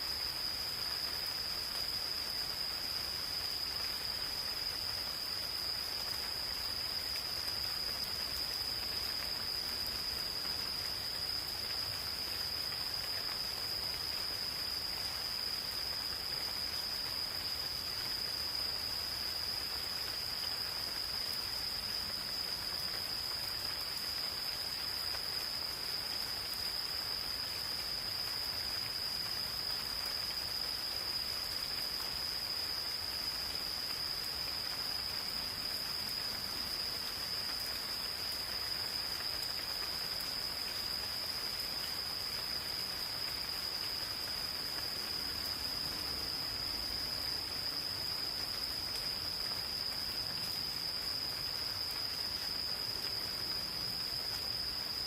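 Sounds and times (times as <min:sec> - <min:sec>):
gentle rain falling: 0:00.0 - 0:55.0
insects trilling: 0:00.0 - 0:55.0.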